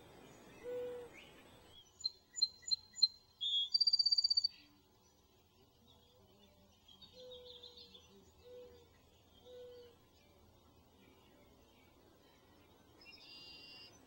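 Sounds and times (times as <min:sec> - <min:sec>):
songbird chirps and trill: 0:00.0 - 0:14.0.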